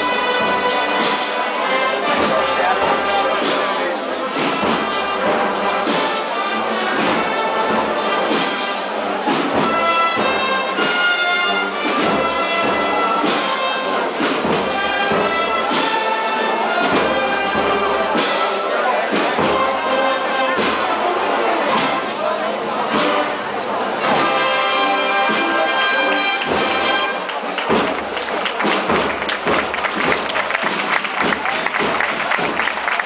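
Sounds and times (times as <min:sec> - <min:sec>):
wind band playing march: 0:00.0 - 0:33.0.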